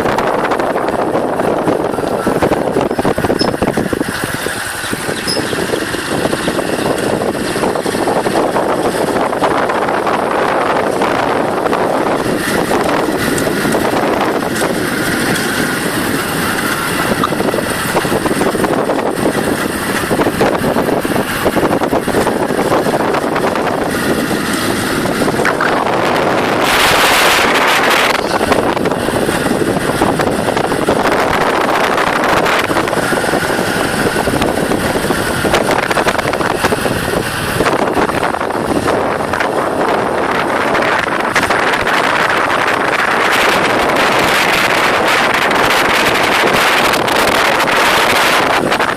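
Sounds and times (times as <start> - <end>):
motorbike engine and road noise: 0.0 - 48.9
wind buffeting microphone: 0.0 - 48.9.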